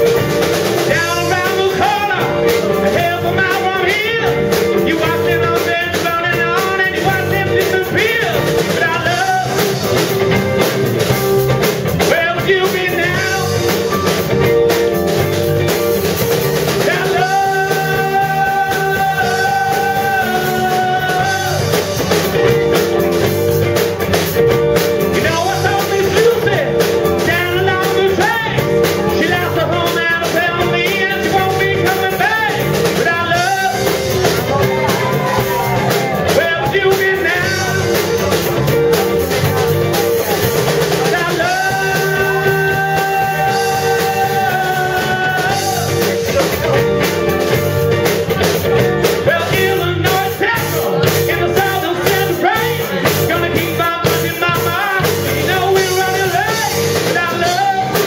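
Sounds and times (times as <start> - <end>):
bass guitar: 0.0 - 58.0
drum kit: 0.0 - 58.0
electric guitars: 0.0 - 58.0
man singing: 0.0 - 58.0.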